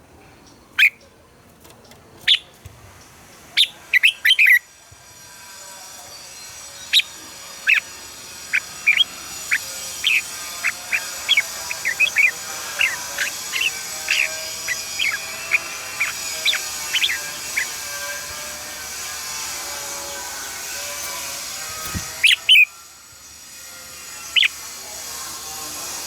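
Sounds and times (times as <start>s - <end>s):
bird chirping calls: 0.4s - 26.0s.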